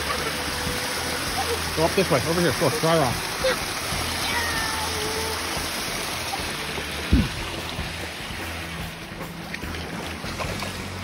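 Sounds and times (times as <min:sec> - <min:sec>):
creek water rushing over rock: 0:00.0 - 0:11.0.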